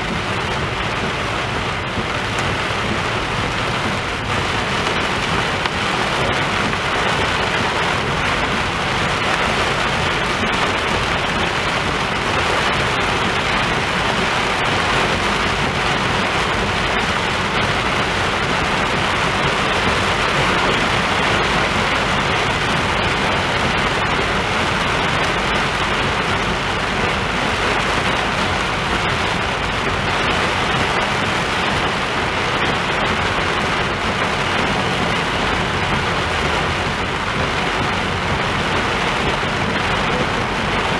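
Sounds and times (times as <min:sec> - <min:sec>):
heavy rain pouring: 0:00.0 - 0:40.9
tyres hissing on wet road: 0:00.0 - 0:40.9.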